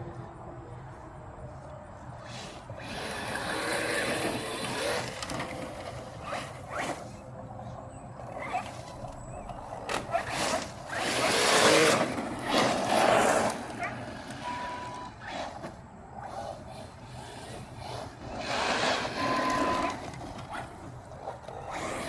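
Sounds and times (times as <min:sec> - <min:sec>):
rc truck tyres on gravel: 0:01.5 - 0:22.0.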